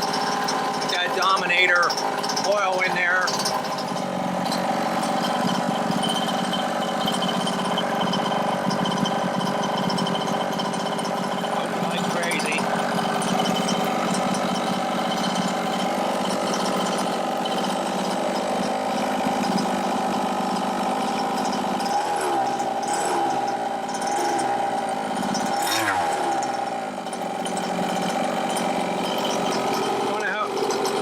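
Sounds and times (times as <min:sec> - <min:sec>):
two-stroke engine running: 0:00.0 - 0:31.0.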